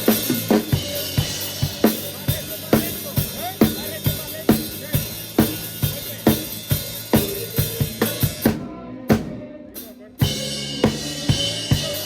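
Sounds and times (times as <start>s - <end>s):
drum kit groove: 0.0s - 12.0s.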